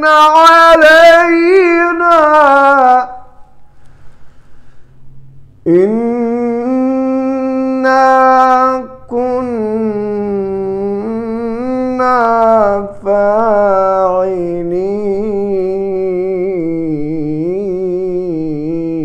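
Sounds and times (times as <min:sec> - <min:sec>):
man chanting melodically: 0:00.0 - 0:03.6, 0:05.6 - 0:19.0.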